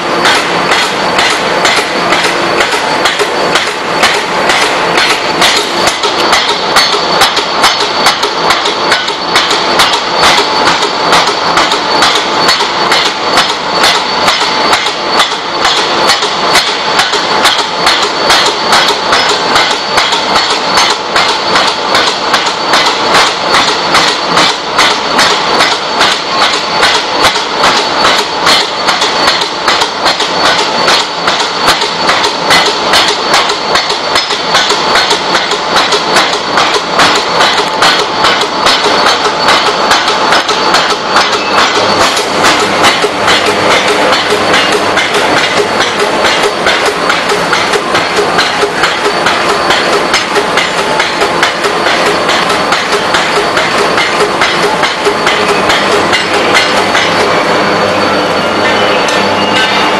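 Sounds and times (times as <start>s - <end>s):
forging hammer striking metal: 0.0s - 59.9s.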